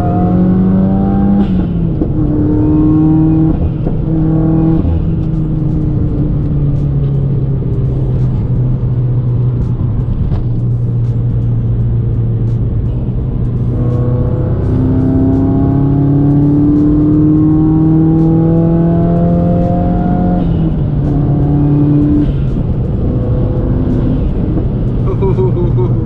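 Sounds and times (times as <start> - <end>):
turbocharged car engine accelerating: 0.0 - 26.0.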